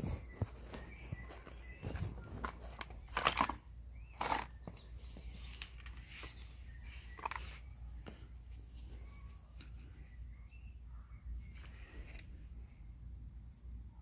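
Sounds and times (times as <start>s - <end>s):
faint bird chirps: 0.0s - 2.8s, 3.8s - 14.0s.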